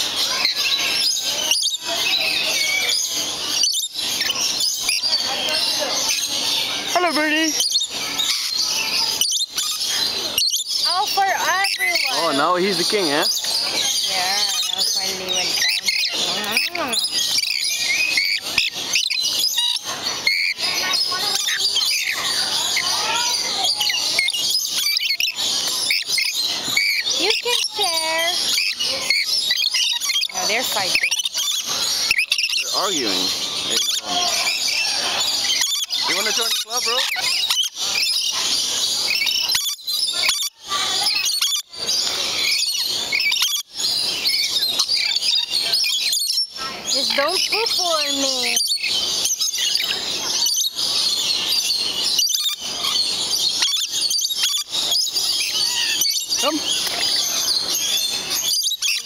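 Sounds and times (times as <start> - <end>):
birds chirping and squawking: 0.0 - 59.0.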